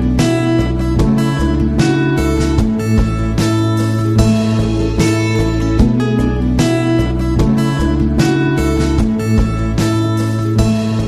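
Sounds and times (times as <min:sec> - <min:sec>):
steady bass line: 0:00.0 - 0:11.0
strummed guitar: 0:00.0 - 0:11.0.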